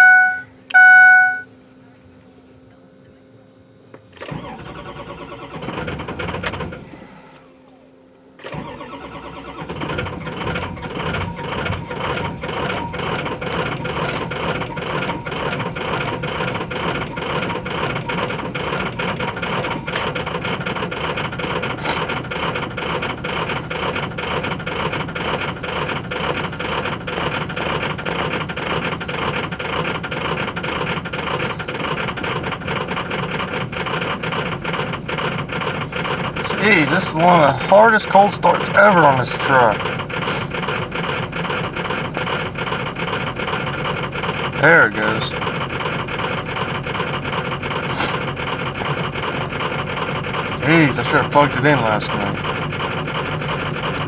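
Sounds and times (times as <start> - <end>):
diesel engine starter cranking: 3.9 - 7.7, 8.3 - 54.0.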